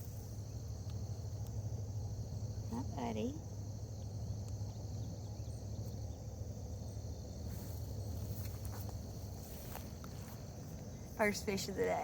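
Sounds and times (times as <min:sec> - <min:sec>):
constant low hum: 0:00.0 - 0:12.0
insects chirring: 0:00.0 - 0:12.0.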